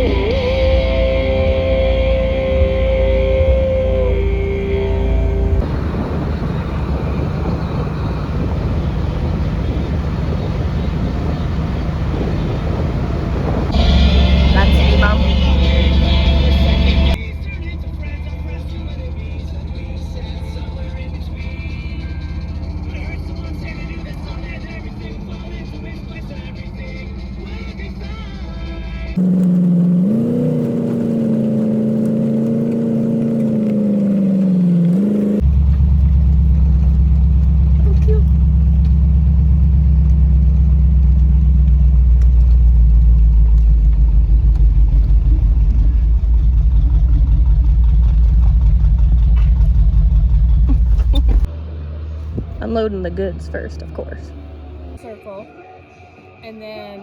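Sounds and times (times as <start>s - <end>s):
car driving at speed: 0.0s - 55.1s
deep road rumble: 0.0s - 55.2s.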